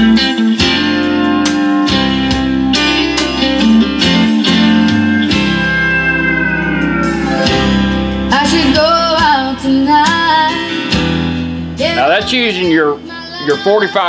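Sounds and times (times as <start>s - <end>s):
song with guitar and singing: 0.0s - 14.0s.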